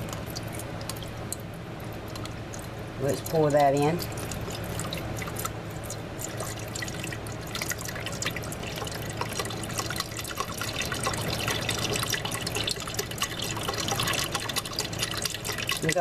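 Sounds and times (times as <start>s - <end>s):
broth pouring into a pot: 2.2s - 16.0s.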